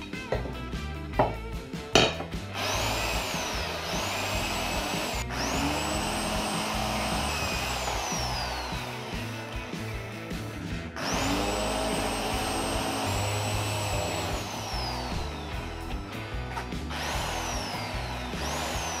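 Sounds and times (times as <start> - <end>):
electric drill boring into steel: 2.5 - 9.9, 11.0 - 19.0.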